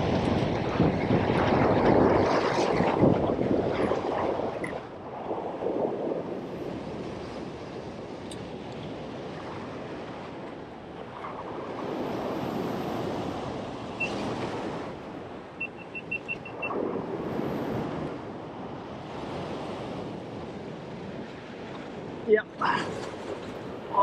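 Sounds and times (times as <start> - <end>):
waves washing over rocks: 0.0 - 24.0
wind on microphone: 0.0 - 24.0.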